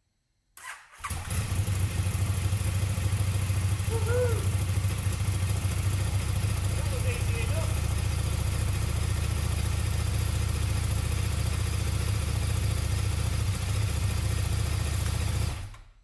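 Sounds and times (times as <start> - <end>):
motorcycle engine idling: 1.1 - 15.8.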